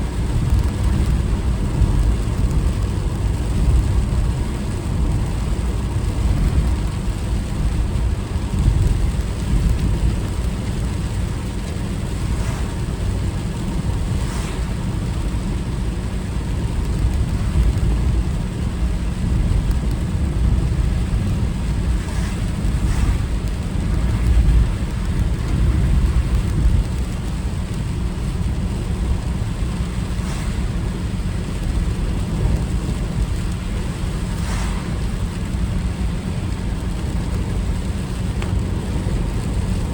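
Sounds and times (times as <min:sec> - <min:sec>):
car road and engine rumble: 0:00.0 - 0:39.9
rain and wet tyres hissing: 0:00.0 - 0:39.9.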